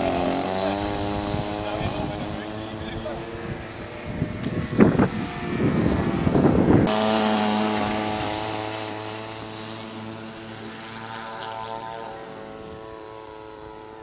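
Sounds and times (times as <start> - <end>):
model airplane motor and propeller: 0.0 - 14.0.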